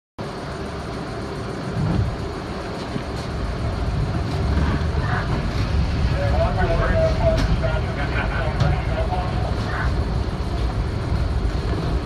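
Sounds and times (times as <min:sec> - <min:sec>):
train rumbling and humming: 0:00.2 - 0:12.0.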